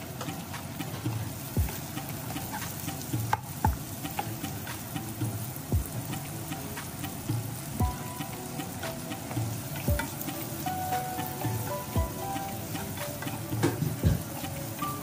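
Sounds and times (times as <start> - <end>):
background music beat: 0.0 - 15.0
onions sizzling in oil: 0.0 - 15.0.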